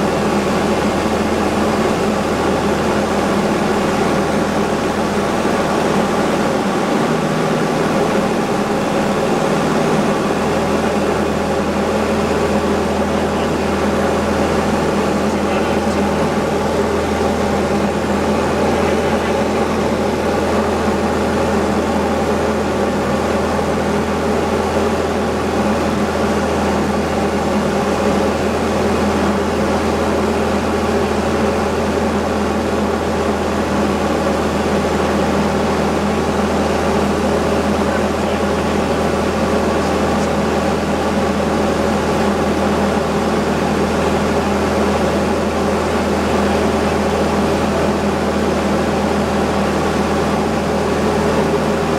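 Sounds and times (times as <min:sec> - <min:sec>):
aircraft engine and propeller drone: 0:00.0 - 0:51.9.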